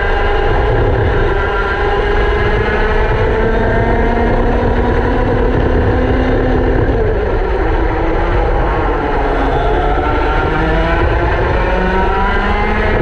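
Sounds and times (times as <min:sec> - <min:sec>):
another go-kart engine: 0:00.0 - 0:13.0
go-kart engine at speed: 0:00.0 - 0:13.0.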